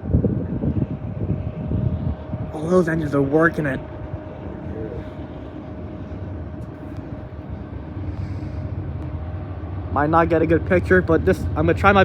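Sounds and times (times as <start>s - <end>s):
diesel locomotives working hard: 0.0s - 12.0s.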